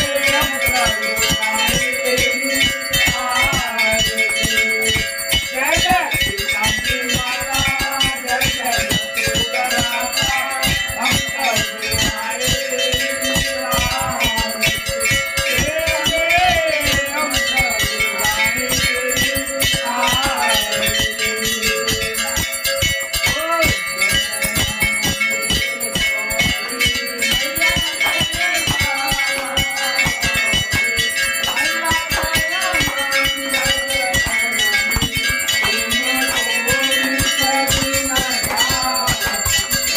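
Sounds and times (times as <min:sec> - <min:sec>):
temple bells rung rapidly: 0:00.0 - 0:39.9.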